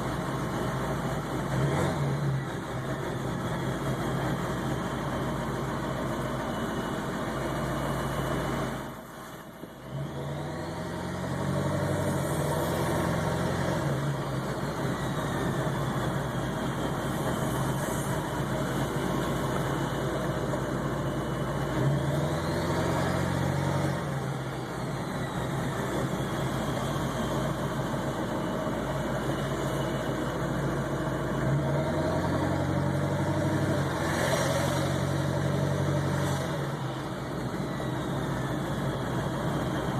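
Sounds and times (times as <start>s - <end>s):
diesel engine idling roughly: 0.0s - 39.9s
faint engine whine: 0.0s - 39.9s.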